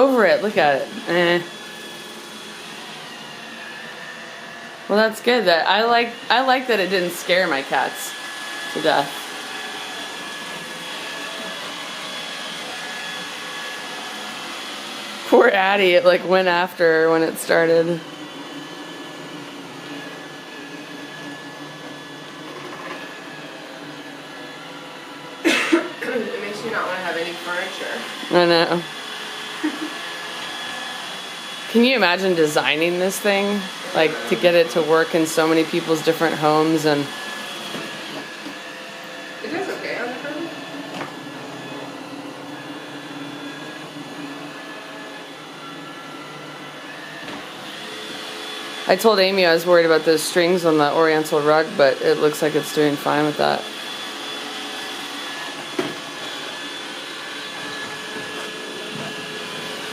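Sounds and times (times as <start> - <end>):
robot vacuum whirring: 0.0 - 59.9.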